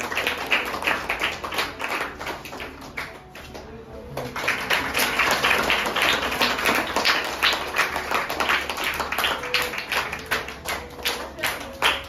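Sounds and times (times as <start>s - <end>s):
group clapping: 0.0s - 12.0s.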